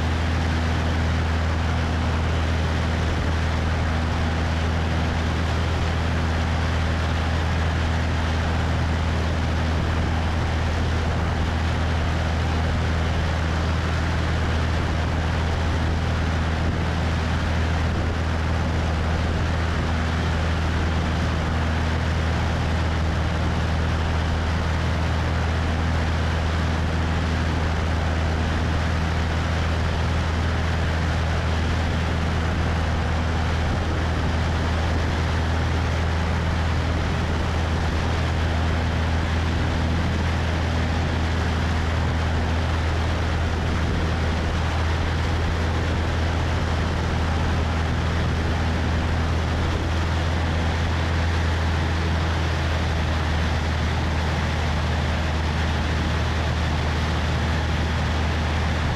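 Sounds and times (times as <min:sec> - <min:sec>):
propeller plane engine droning: 0:00.0 - 0:58.9.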